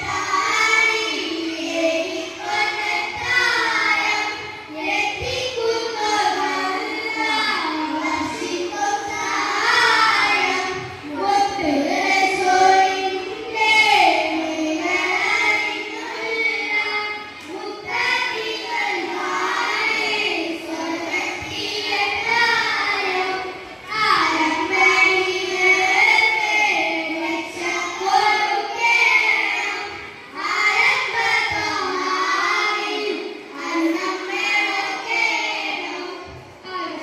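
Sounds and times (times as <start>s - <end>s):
child singing: 0.0s - 37.0s.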